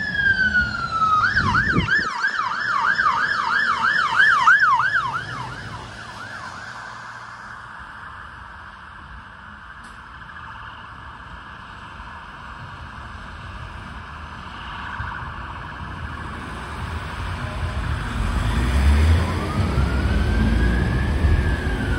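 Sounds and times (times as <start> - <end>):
emergency vehicle sirens: 0.0 - 21.9
road traffic: 0.0 - 21.9.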